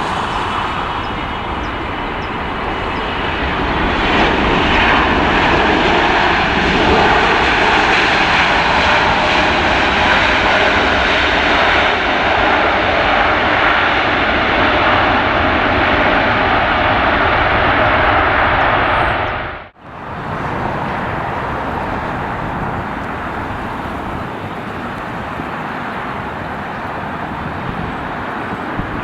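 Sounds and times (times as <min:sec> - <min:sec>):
jet airliner engines roaring: 0:00.0 - 0:29.0.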